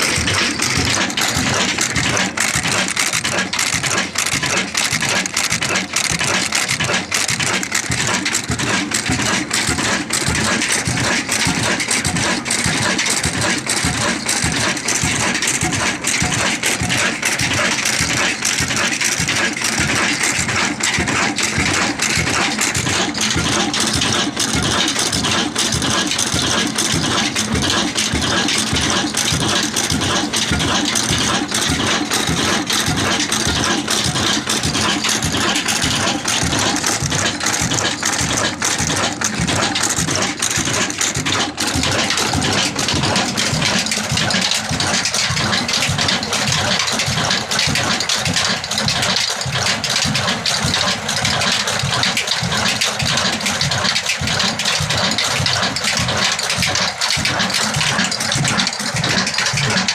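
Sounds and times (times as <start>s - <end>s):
diesel engine idling with rattle: 0.0s - 59.9s.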